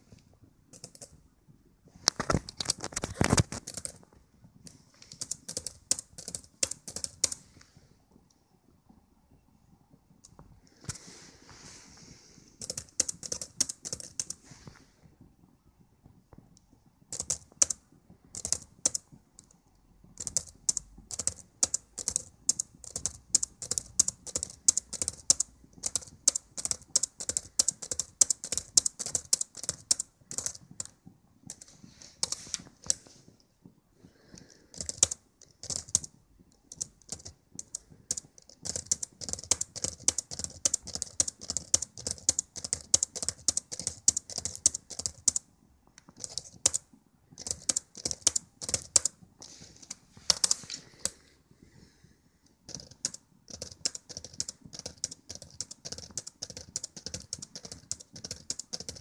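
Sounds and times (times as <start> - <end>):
laptop keyboard typing: 0.0 - 1.3, 1.9 - 15.2, 16.2 - 59.0.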